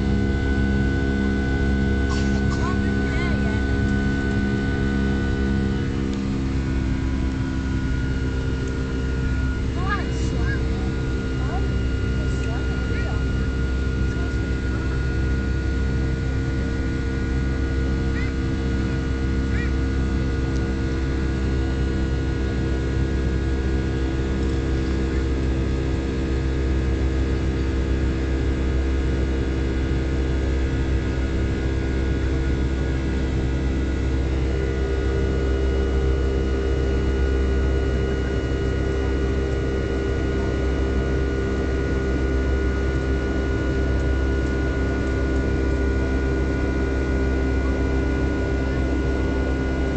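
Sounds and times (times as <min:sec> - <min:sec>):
airplane cabin drone: 0:00.0 - 0:49.9.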